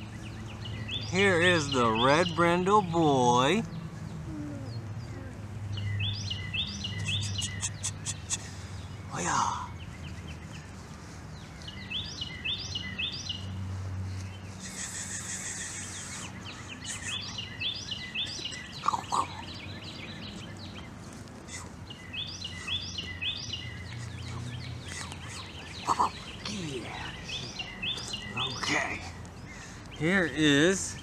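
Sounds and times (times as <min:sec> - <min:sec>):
outdoor background noise: 0:00.0 - 0:31.0
songbird singing: 0:00.0 - 0:31.0.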